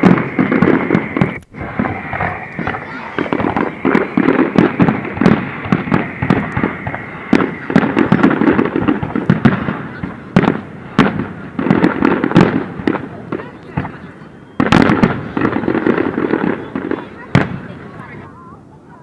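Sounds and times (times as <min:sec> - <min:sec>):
high firework whistle: 0:00.0 - 0:18.3
fireworks bangs and crackling: 0:00.0 - 0:18.9.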